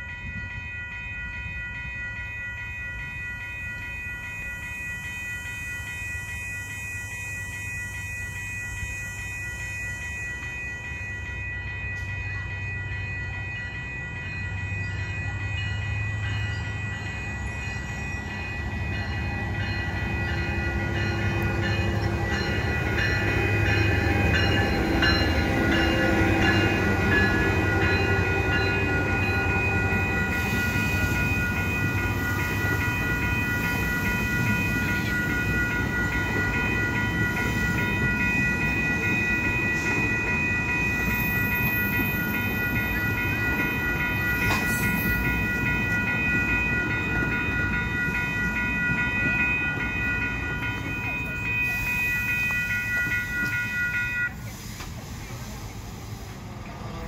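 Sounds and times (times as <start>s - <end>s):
crossing warning bell ringing: 0.0s - 57.0s
train coaches rolling over rails: 3.0s - 57.0s.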